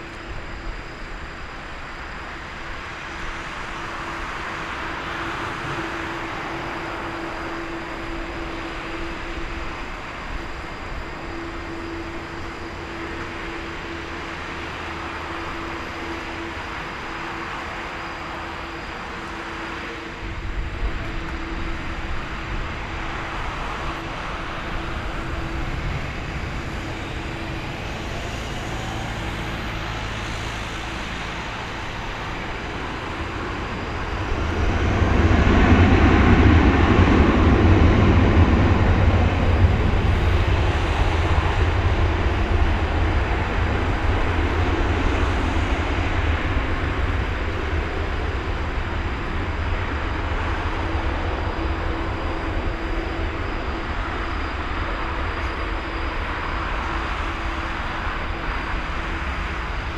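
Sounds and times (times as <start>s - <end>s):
airliner rolling rumble: 0.0s - 59.9s
jet engines spooling up: 0.0s - 59.9s.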